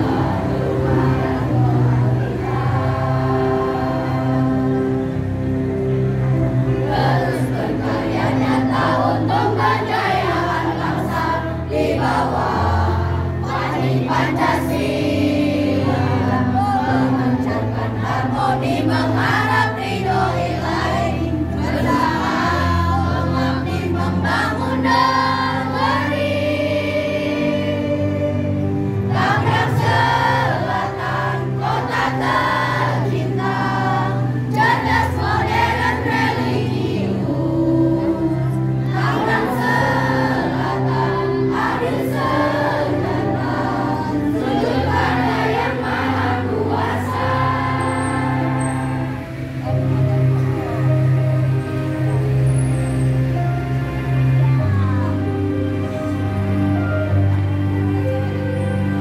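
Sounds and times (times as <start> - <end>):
choir singing a hymn: 0.0 - 59.0
sustained low accompanying notes: 0.0 - 59.0.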